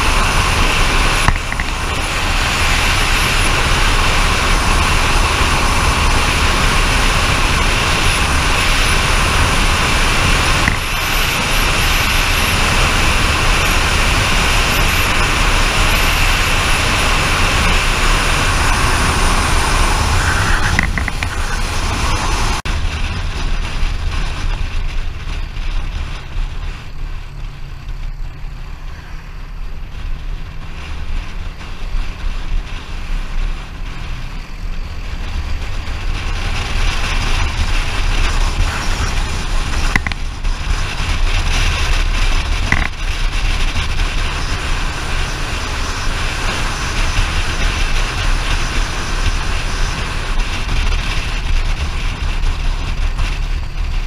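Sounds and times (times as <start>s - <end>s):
vehicle road and wind noise: 0.0s - 54.0s.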